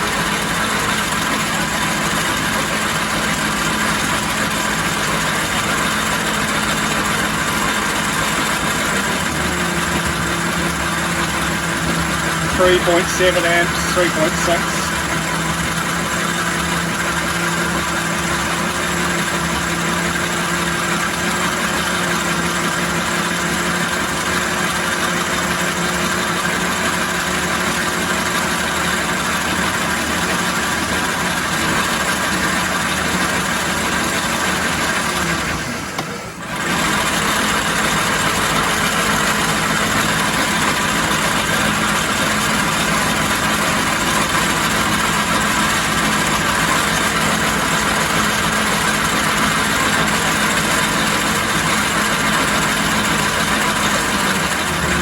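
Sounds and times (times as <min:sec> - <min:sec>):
lathe humming: 0:00.0 - 0:55.0.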